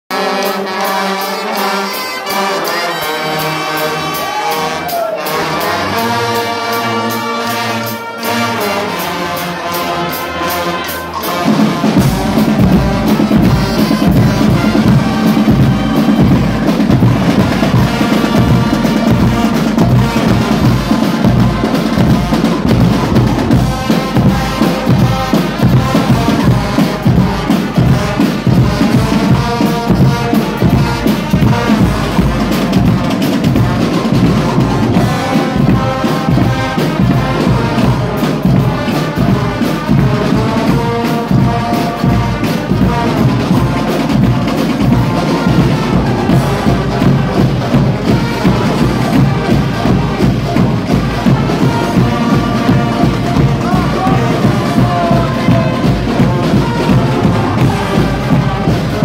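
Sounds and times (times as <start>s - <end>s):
trumpets and trombones playing: 0.1s - 59.0s
bass drums and percussion: 11.2s - 59.0s.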